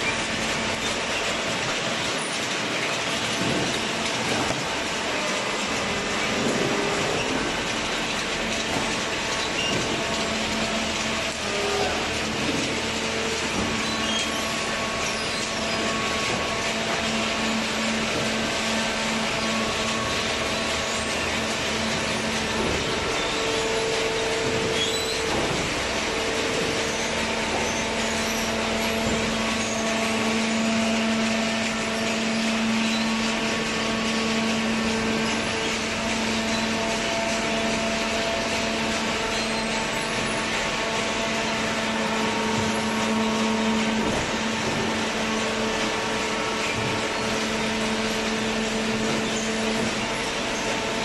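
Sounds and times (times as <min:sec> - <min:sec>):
baler motor and pump hum: 0:00.0 - 0:51.0.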